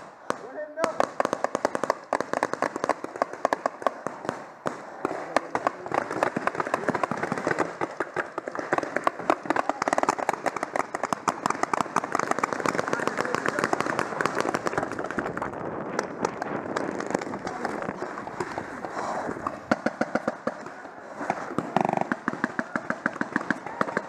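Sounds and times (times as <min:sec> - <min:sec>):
paintball markers firing: 0:00.0 - 0:24.0.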